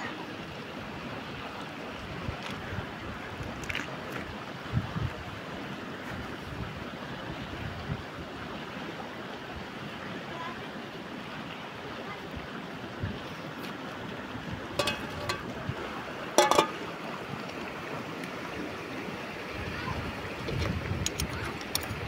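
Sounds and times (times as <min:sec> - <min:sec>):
river flowing: 0:00.0 - 0:22.0.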